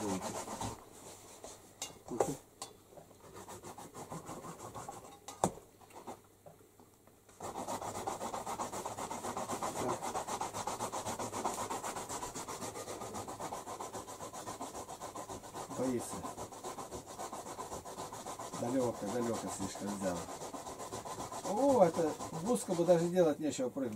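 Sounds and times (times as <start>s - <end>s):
fast rubbing and scratching: 0.0s - 1.6s, 3.2s - 5.2s, 5.8s - 6.2s, 7.4s - 23.4s.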